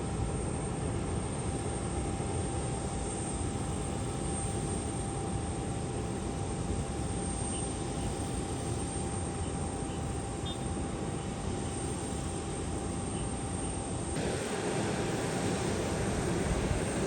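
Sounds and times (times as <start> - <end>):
aircraft engine rumble: 0.0 - 17.0
high engine whine: 0.0 - 17.0.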